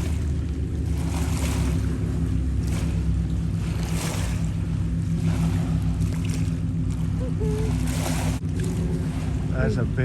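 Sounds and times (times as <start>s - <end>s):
low motor drone: 0.0s - 10.0s.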